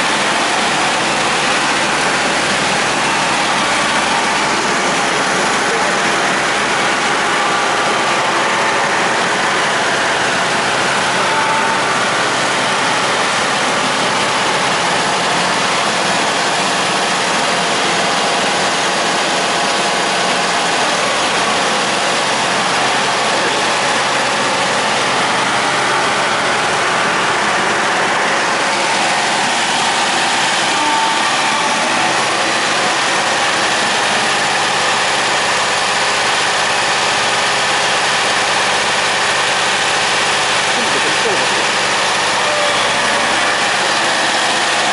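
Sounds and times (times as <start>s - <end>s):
construction machinery engine drone: 0.0s - 44.9s.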